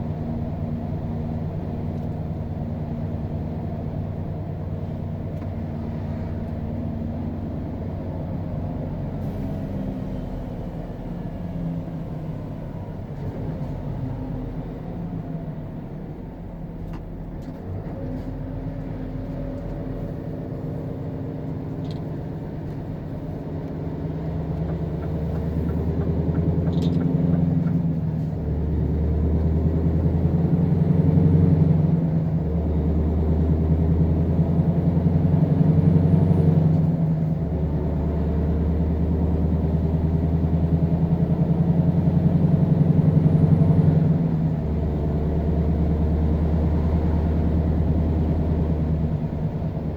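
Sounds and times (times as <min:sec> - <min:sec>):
truck diesel engine pulling: 0:00.0 - 0:49.9.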